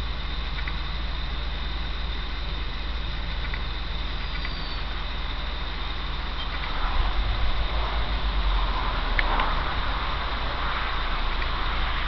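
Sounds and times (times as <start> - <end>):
tractor diesel engine rumbling: 0.0 - 12.0.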